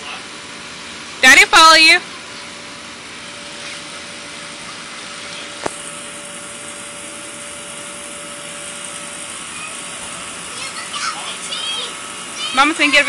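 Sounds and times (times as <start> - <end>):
electric blower fan humming: 0.0 - 13.0.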